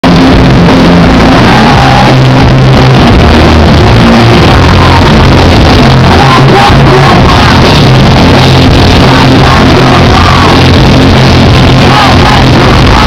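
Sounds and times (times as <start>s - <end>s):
bass notes: 0.0s - 13.0s
live rock band playing loud: 0.0s - 13.0s.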